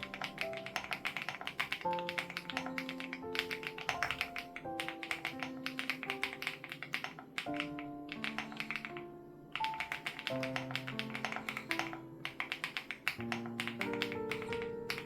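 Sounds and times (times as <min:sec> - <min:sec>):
mechanical keyboard typing: 0:00.0 - 0:15.0
soft background music: 0:00.0 - 0:15.0.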